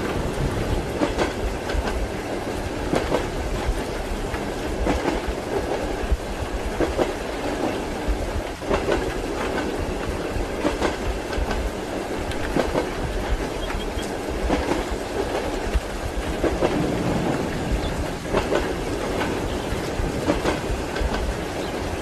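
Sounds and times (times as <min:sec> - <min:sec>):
low rumble of moving carriage: 0:00.0 - 0:22.0
train wheels clicking over rail joints: 0:00.0 - 0:22.0.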